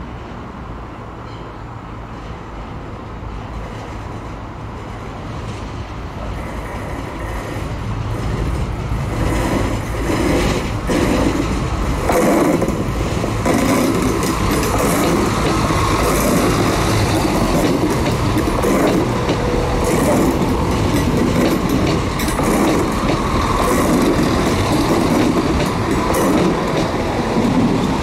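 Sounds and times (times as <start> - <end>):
diesel train engines: 0.0 - 28.0
train wheels on rails: 0.1 - 28.0.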